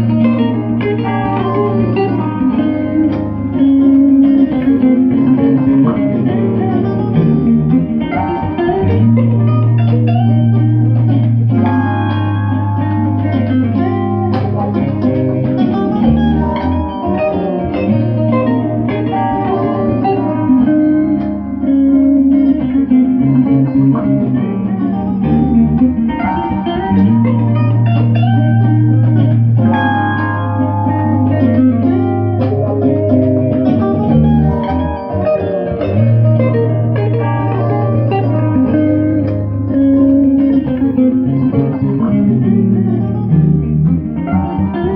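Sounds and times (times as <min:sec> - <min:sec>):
bass line: 0:00.0 - 0:44.9
electric guitar music: 0:00.0 - 0:44.9.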